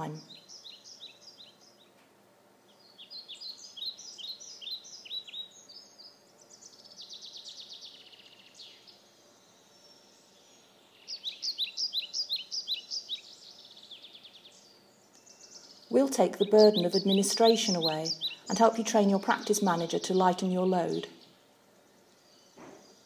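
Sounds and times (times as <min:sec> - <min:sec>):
songbird chirping and trilling: 0:00.0 - 0:02.0, 0:02.6 - 0:23.0.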